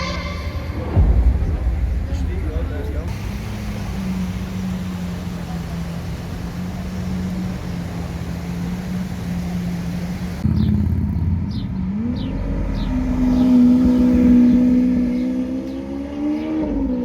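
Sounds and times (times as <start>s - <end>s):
car engine revving: 0.0s - 17.0s
car engine running: 1.3s - 15.7s.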